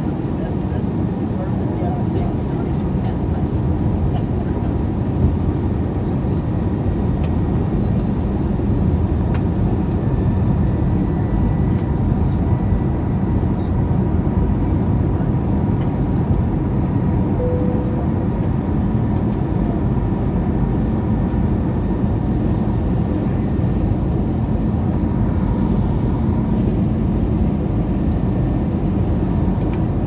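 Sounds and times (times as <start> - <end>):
airliner engine drone in cabin: 0.0 - 30.0.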